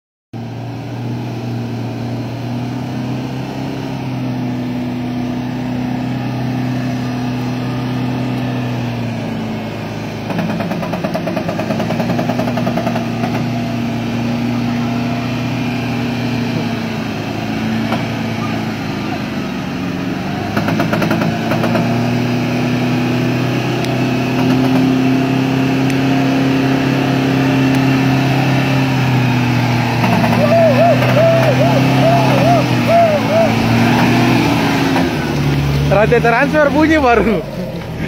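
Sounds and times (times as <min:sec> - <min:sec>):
truck engine running under load: 0:00.4 - 0:38.0.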